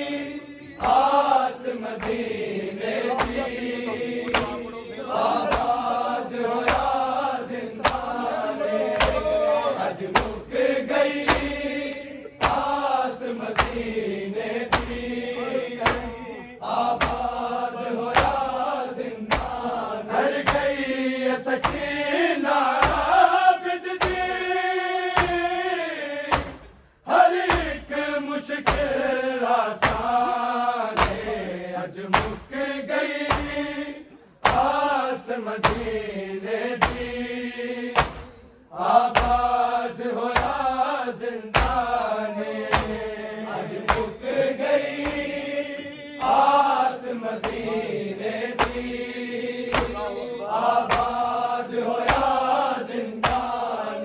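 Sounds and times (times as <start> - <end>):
chorus chanting a lament: 0.0 - 54.0
rhythmic chest-beating strikes: 0.0 - 54.0.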